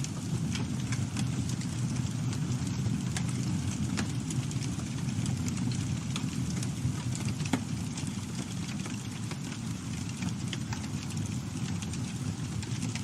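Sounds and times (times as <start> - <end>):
campfire flames rumbling: 0.0 - 13.0
fire crackles and pops: 0.0 - 13.0.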